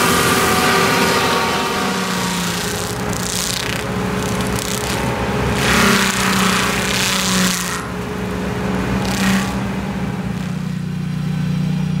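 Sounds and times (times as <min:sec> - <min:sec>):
mulcher grinding tree stump: 0:00.0 - 0:11.6
excavator engine running: 0:00.0 - 0:12.0.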